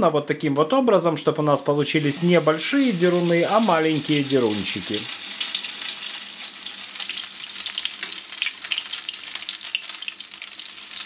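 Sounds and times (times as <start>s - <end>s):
pancakes sizzling in oil: 1.7s - 11.0s.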